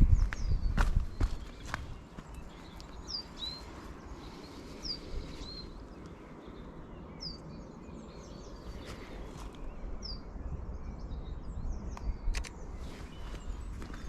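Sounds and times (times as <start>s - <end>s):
faint outdoor background noise: 0.0s - 14.0s
songbird calling: 0.1s - 14.0s.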